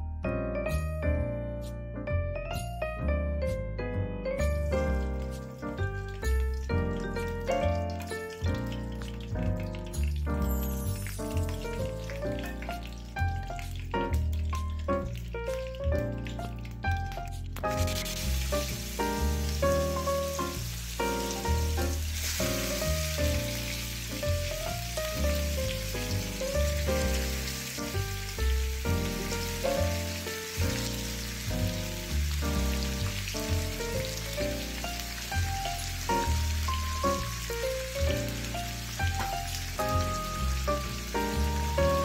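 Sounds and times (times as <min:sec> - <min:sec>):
chicken sizzling in hot oil: 0:04.4 - 0:42.0.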